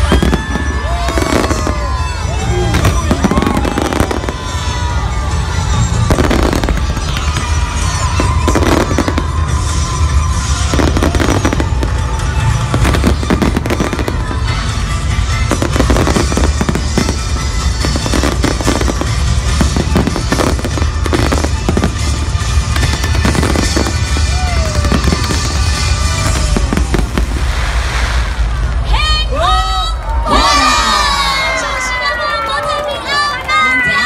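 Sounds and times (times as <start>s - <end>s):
fireworks bangs and crackling: 0.0s - 29.2s.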